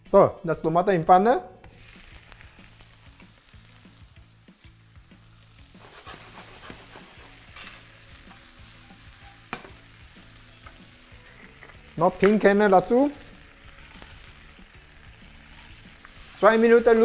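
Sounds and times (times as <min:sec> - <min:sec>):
tomatoes sizzling in a frying pan: 0:01.6 - 0:17.0.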